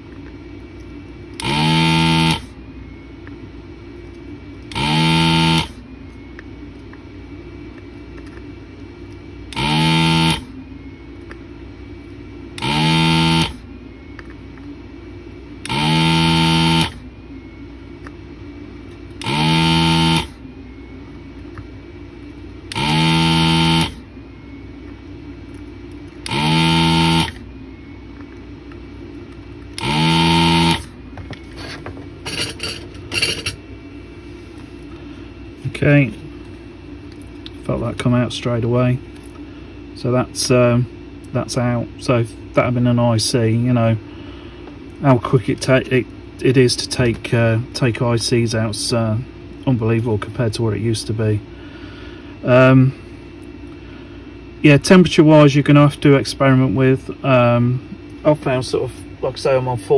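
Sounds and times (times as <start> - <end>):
low steady hum: 0.0 - 59.9
vacuum pump buzzing: 0.0 - 59.9.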